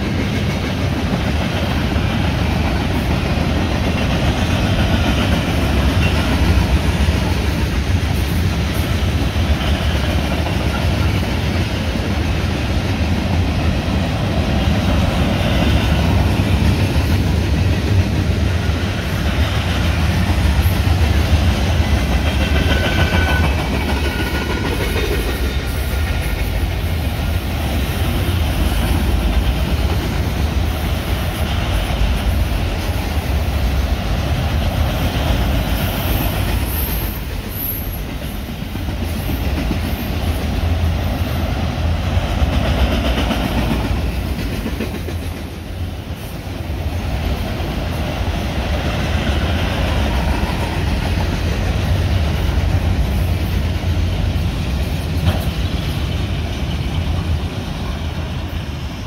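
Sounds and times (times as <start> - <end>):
freight train rolling past: 0.0 - 59.0
steel wheels on rails: 0.0 - 59.0.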